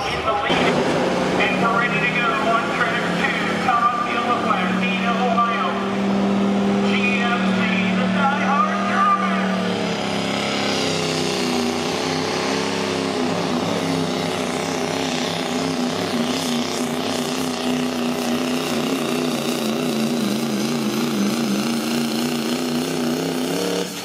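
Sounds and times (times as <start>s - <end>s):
diesel truck engine at full power: 0.0s - 24.0s.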